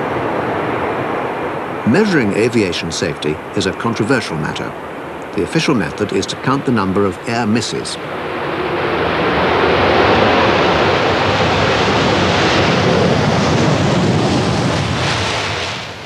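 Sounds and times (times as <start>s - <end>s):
jet aircraft roar: 0.0s - 16.0s.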